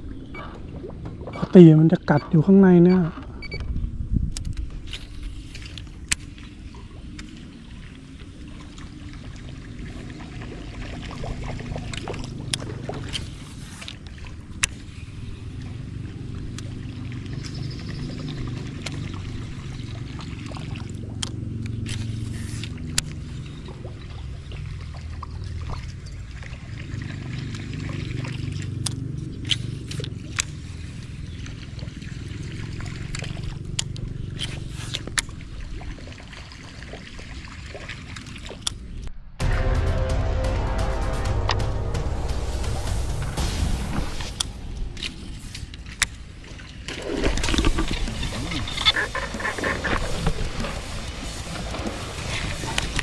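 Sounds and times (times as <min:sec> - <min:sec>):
boat motor humming: 0:00.0 - 0:04.0, 0:04.6 - 0:35.8, 0:38.8 - 0:53.0.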